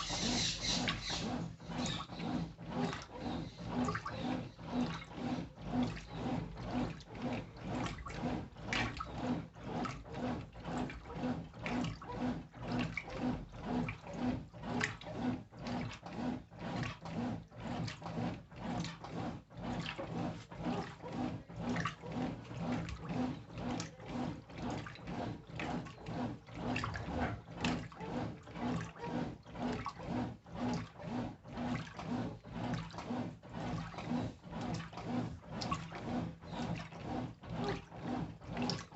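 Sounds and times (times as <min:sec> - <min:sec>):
washing machine motor hum: 0:00.0 - 0:38.9
water sloshing in tub: 0:00.0 - 0:38.9.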